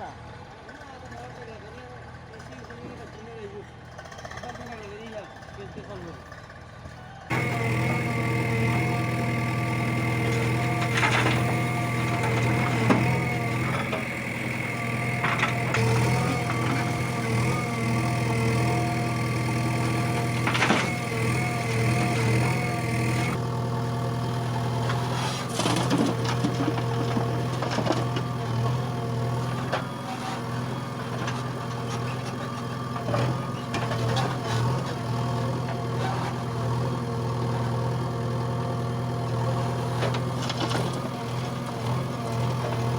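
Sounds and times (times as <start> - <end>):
diesel engine running: 7.3 - 42.9.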